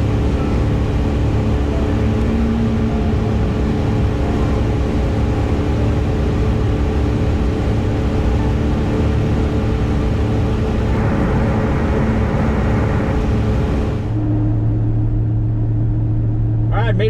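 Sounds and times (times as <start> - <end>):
car engine and tyre drone: 0.0 - 16.7.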